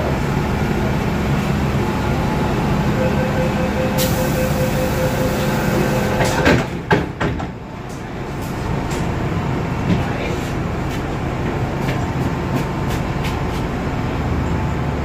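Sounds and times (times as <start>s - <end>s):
train wheels rumbling: 0.0s - 14.5s.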